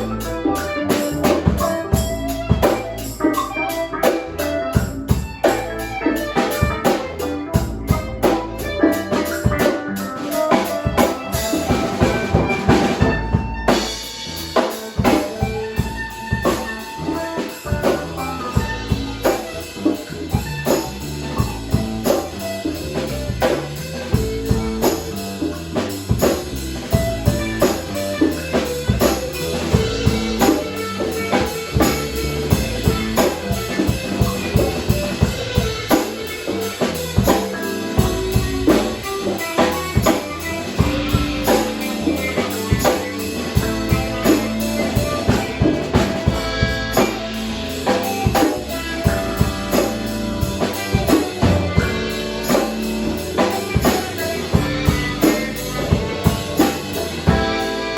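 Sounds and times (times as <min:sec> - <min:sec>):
drum-kit beat: 0:00.0 - 0:57.9
held melodic notes: 0:00.0 - 0:57.9.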